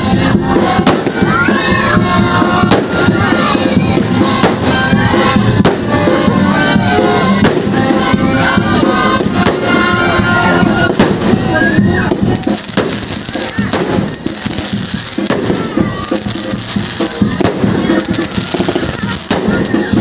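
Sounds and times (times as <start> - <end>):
fireworks bursting: 0.0 - 20.0
loud music with singing: 0.0 - 20.0.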